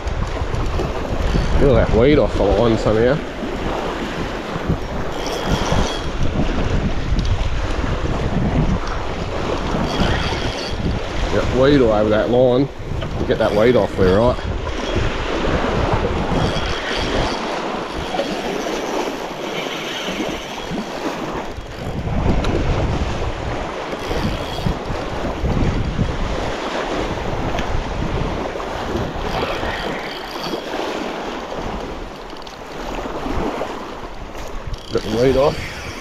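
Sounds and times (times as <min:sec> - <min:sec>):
small waves lapping: 0:00.0 - 0:36.0
strong wind buffeting microphone: 0:00.0 - 0:36.0.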